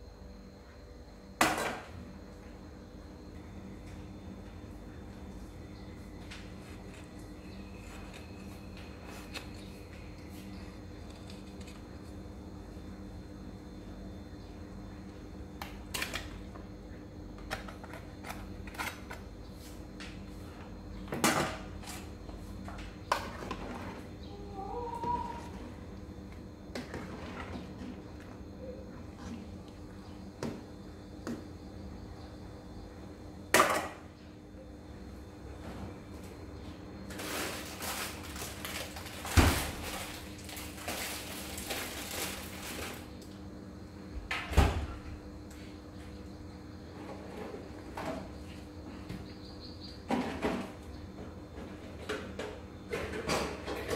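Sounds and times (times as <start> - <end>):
faint steady hum: 0.0 - 53.9.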